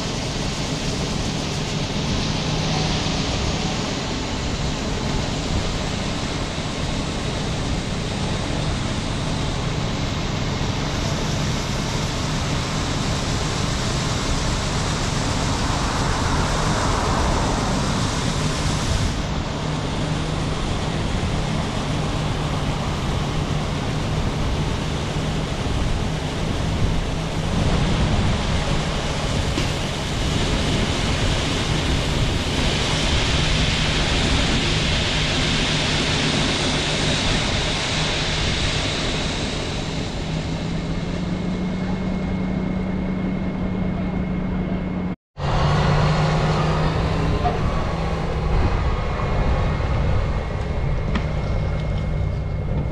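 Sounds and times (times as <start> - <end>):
diesel farm machinery running: 0.0 - 52.9.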